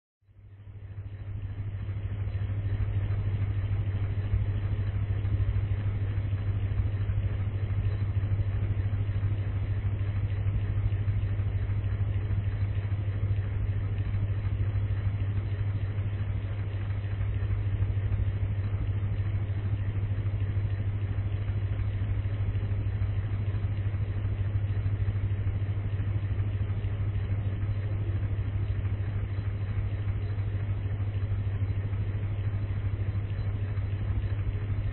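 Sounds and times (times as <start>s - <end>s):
electric fan running: 0.4s - 34.9s.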